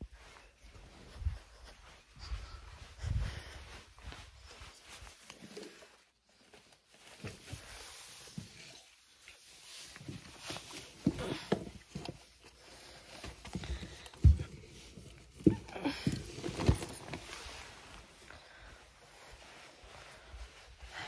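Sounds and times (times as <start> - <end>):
footsteps: 0.0 - 21.0.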